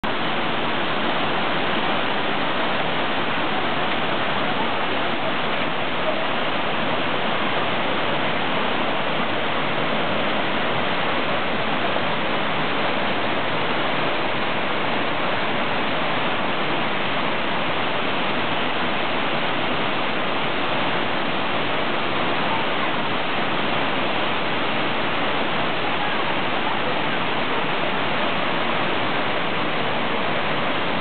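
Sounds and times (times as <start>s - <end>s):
white water rushing over rocks: 0.0s - 31.0s.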